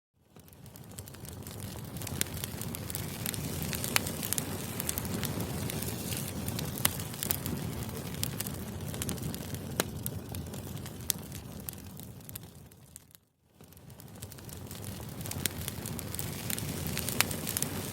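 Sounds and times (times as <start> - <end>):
bonfire crackling: 0.2 - 17.9.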